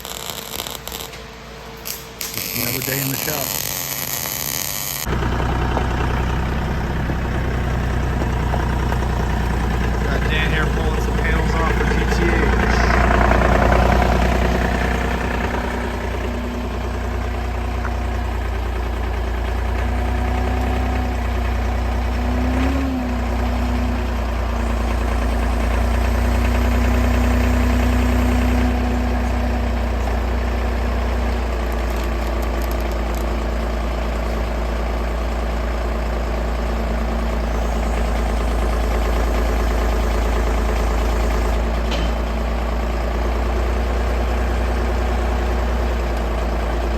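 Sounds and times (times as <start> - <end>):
engine idling: 0.0 - 46.9.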